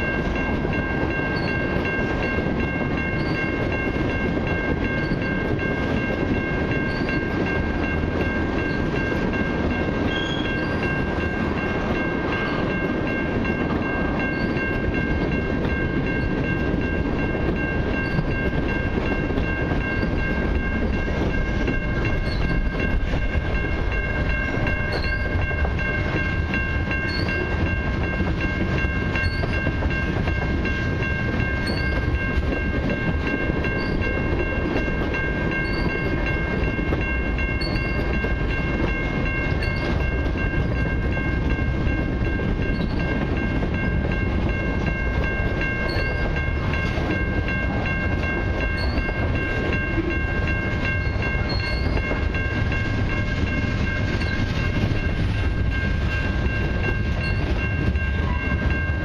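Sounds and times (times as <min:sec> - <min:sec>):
high ringing tones: 0:00.0 - 0:59.0
train wheels rumbling on rails: 0:00.0 - 0:59.0.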